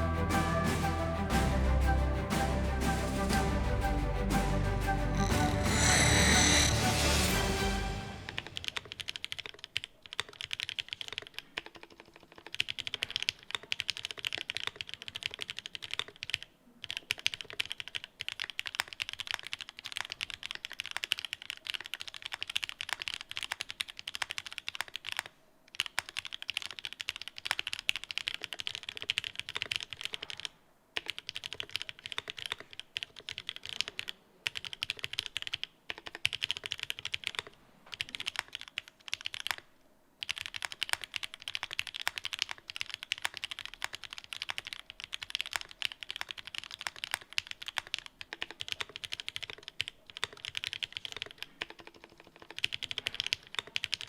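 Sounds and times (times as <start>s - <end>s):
fast mechanical keyboard typing: 8.3s - 54.0s.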